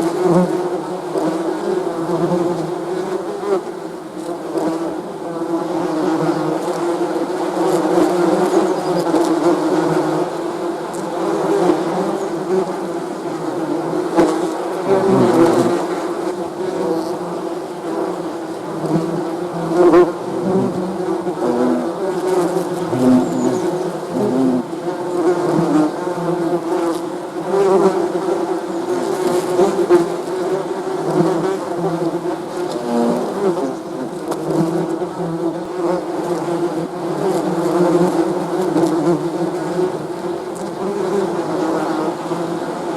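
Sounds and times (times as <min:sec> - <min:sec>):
bees buzzing: 0:05.4 - 0:42.9.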